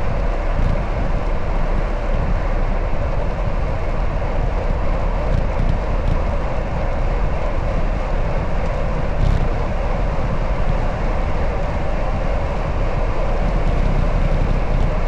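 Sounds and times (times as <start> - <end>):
bicycle ride rumble: 0.0 - 15.0
wind buffeting microphone: 0.0 - 15.0.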